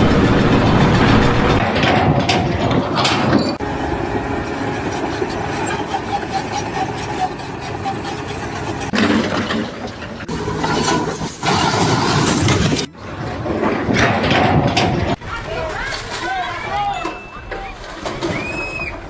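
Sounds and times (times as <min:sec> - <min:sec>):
engine running: 0:00.0 - 0:15.4.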